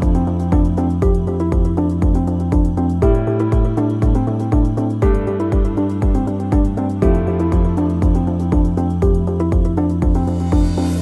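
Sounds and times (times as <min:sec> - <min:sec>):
electronic music with steady beat: 0:00.0 - 0:11.0
sustained synth chords: 0:00.0 - 0:11.0.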